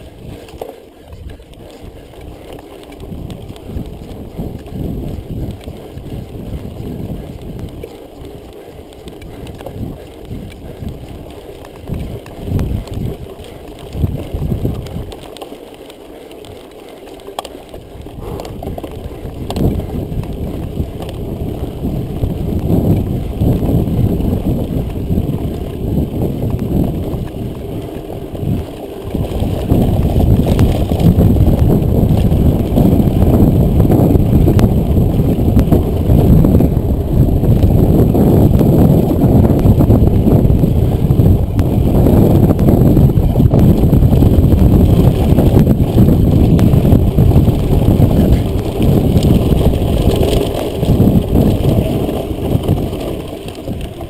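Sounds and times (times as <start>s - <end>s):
wind rushing over microphone: 0.0s - 16.6s, 17.6s - 54.0s
tyre rumble: 0.0s - 54.0s.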